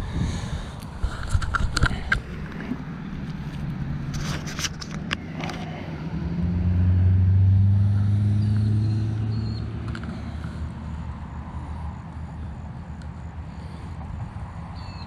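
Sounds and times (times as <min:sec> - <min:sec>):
vehicle engine passing by: 0:02.5 - 0:15.0.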